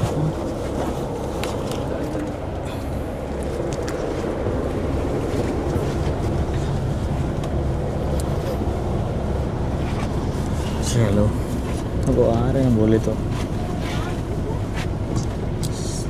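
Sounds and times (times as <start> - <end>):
bus engine low rumble: 0.0 - 16.0.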